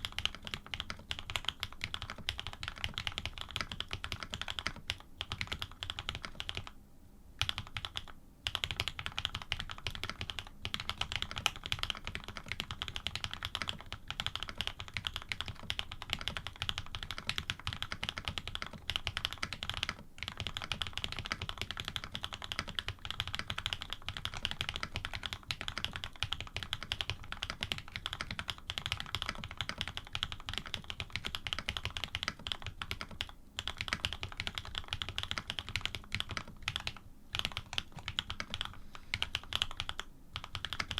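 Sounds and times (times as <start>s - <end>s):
fast mechanical keyboard typing: 0.0s - 6.7s, 7.4s - 40.9s.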